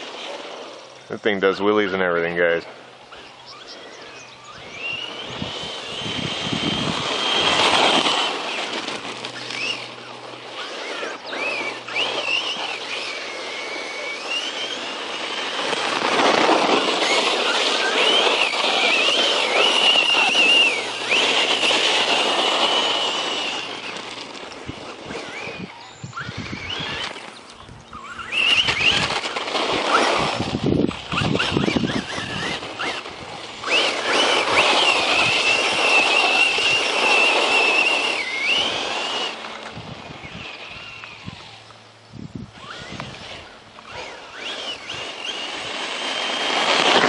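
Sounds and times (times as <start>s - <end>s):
tyres rushing on dirt: 0.0s - 41.7s, 42.6s - 47.0s
toy truck electric motor whining: 0.0s - 47.0s.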